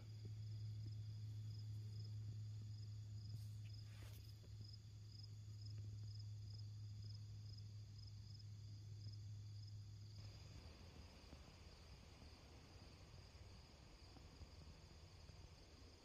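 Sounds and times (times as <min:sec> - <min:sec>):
insect chirping: 0:00.0 - 0:16.0
steady low hum: 0:00.0 - 0:16.0.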